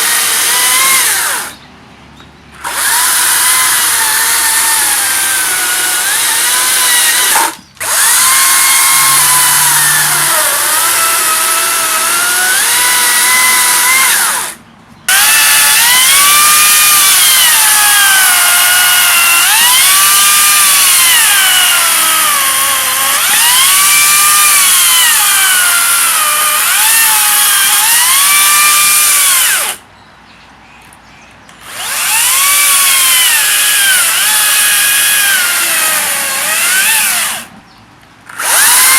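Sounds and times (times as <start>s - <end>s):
electric chainsaw cutting wood: 0.0s - 1.6s, 2.6s - 29.8s, 31.6s - 37.6s, 38.3s - 38.9s.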